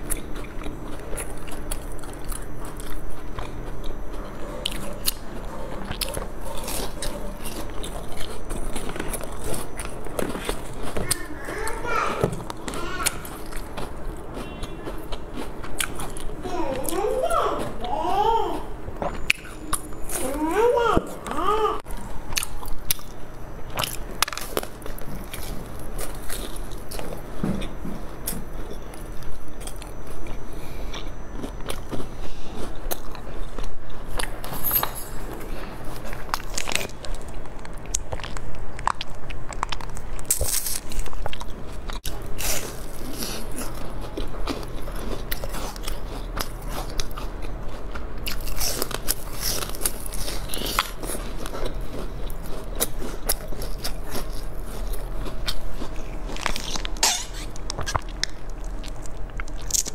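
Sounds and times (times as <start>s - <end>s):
person crunching and chewing food: 0.0s - 59.9s.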